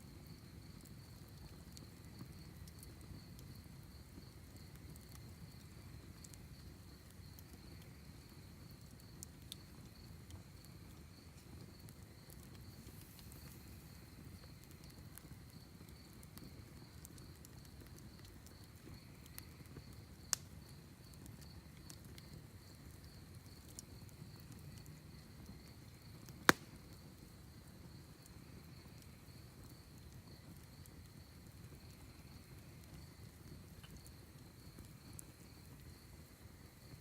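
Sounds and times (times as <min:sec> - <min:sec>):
wood fire crackling: 0:00.0 - 0:37.0
fire popping: 0:00.5 - 0:37.0.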